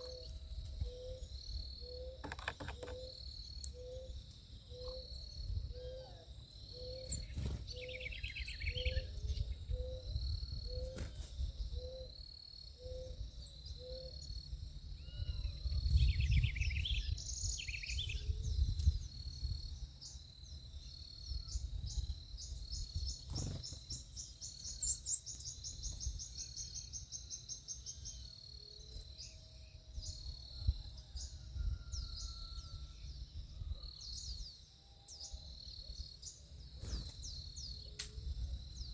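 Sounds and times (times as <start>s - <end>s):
birds calling and chirping: 0.0s - 38.9s.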